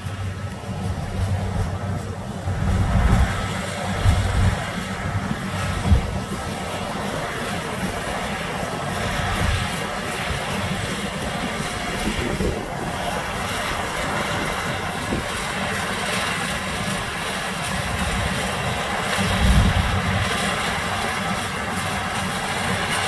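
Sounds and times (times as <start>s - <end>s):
combine harvester droning: 0.0s - 23.0s.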